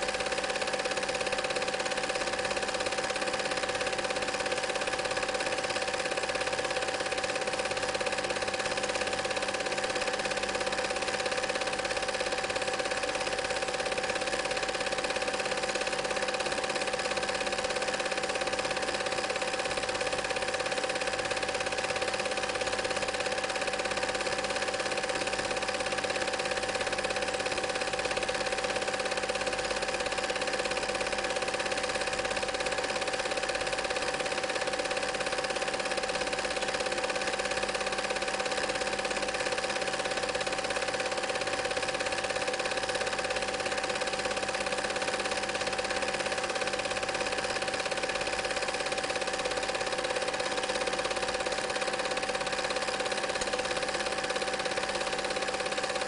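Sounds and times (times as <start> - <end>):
film projector whirring and clattering: 0.0 - 56.0.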